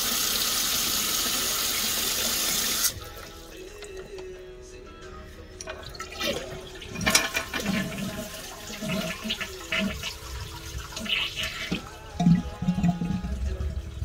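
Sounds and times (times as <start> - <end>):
toilet flushing: 0.0 - 3.5, 5.6 - 14.0.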